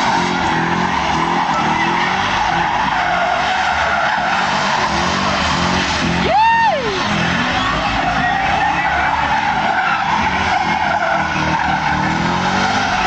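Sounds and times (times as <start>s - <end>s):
car engine revving hard: 0.0s - 13.0s
tyres squealing on tarmac: 0.0s - 13.0s.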